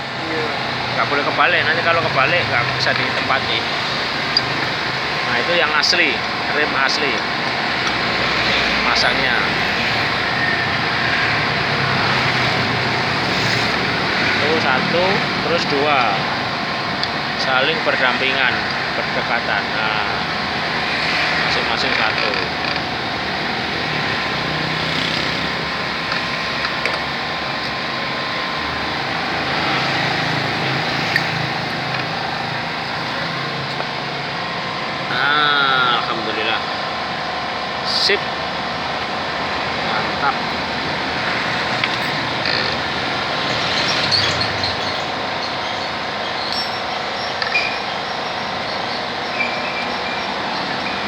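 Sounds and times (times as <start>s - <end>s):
engine running: 0.0s - 51.0s.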